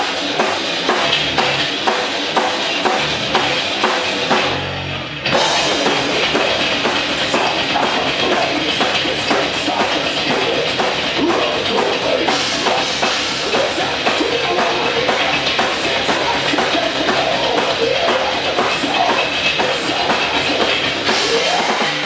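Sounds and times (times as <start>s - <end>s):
drum kit beat: 0.0s - 22.0s
rock band playing: 0.0s - 22.0s.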